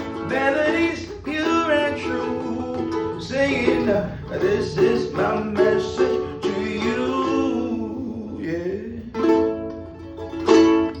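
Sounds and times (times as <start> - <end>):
person singing: 0.0 - 9.6
ukulele strumming: 0.0 - 11.0.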